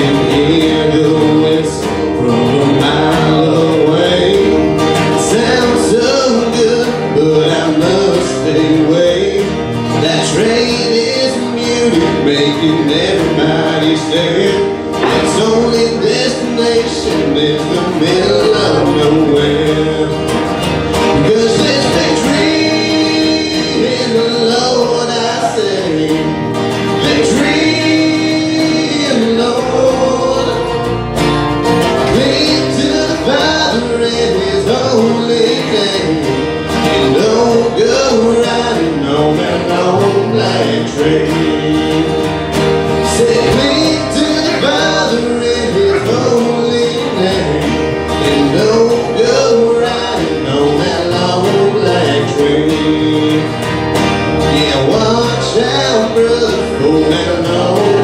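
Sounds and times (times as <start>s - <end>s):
electric bass guitar: 0.0s - 58.0s
man singing: 0.0s - 58.0s
strummed acoustic guitars: 0.0s - 58.0s.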